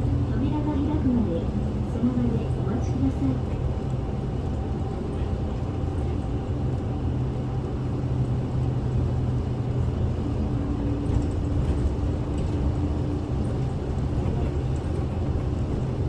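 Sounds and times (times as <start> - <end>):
bus engine humming: 0.0 - 16.0
road and tyre rumble: 0.0 - 16.0.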